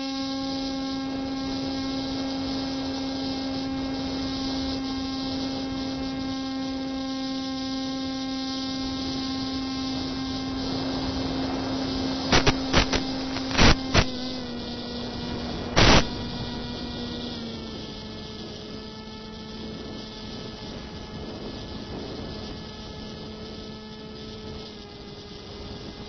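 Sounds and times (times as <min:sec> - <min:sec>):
model airplane motor hum: 0:00.0 - 0:26.0
static crackle: 0:00.0 - 0:26.0.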